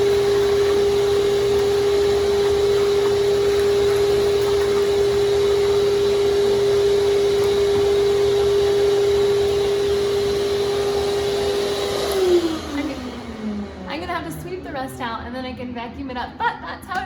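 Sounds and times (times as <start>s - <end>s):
vacuum motor winding down: 0.0s - 14.9s
shop vacuum whining: 0.0s - 15.6s.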